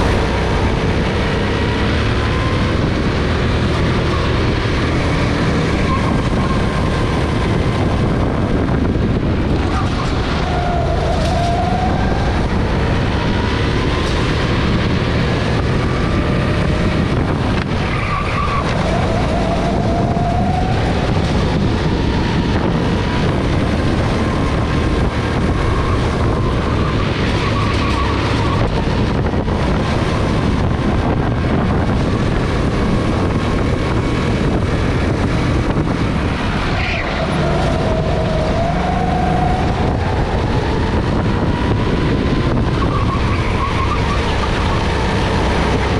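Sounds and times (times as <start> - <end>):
go-kart engine racing: 0.0 - 45.9.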